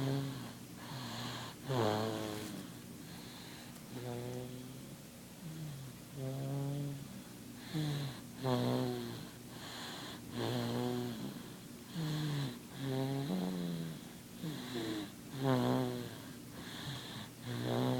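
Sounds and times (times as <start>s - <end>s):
baby snoring: 0.0s - 4.8s, 5.4s - 7.0s, 7.6s - 17.9s.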